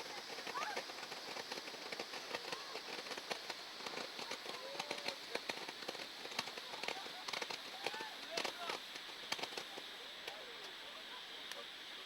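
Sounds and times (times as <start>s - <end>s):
distant fireworks crackling: 0.0s - 10.8s.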